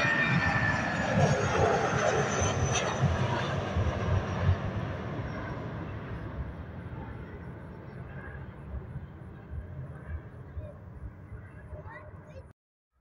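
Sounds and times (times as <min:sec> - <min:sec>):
jet engine roar: 0:00.0 - 0:12.4.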